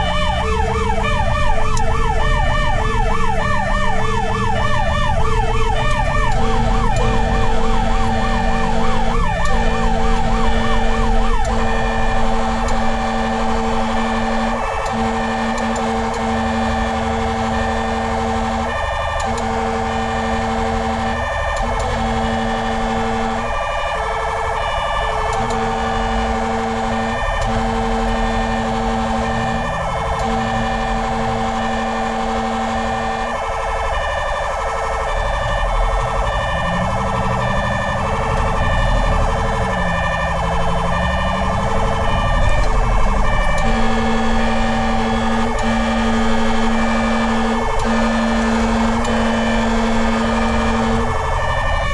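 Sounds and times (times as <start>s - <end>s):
fire engine siren steady tone: 0.0s - 51.9s
siren rising and falling wail: 0.0s - 51.9s.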